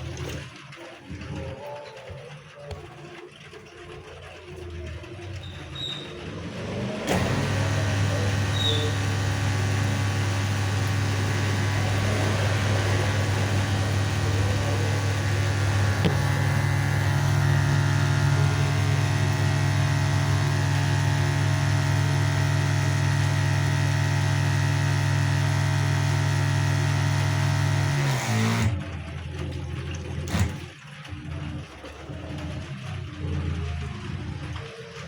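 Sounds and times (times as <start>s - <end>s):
washing machine motor humming: 0.0s - 35.0s.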